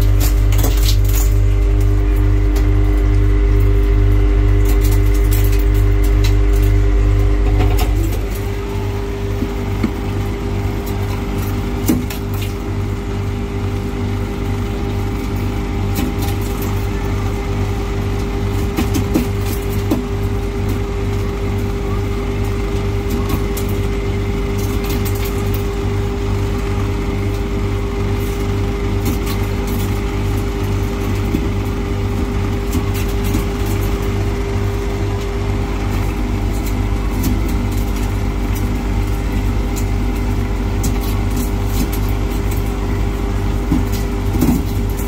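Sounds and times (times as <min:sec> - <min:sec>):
ice maker humming and throbbing: 0:00.0 - 0:45.0.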